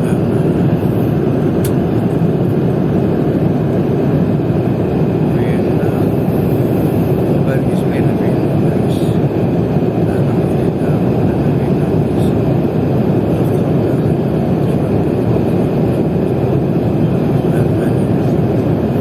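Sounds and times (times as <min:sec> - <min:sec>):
airliner cabin engine and airflow noise: 0:00.0 - 0:19.0.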